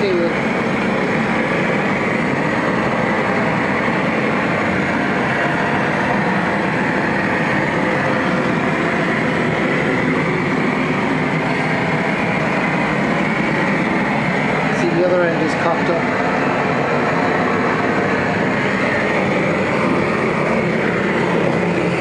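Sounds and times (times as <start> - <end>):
gas torch flame rushing: 0.0 - 22.0.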